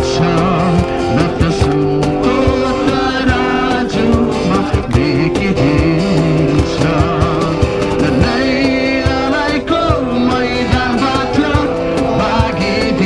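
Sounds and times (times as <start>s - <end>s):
percussive beat: 0.0s - 13.0s
strummed acoustic guitars: 0.0s - 13.0s
voices singing: 0.0s - 13.0s.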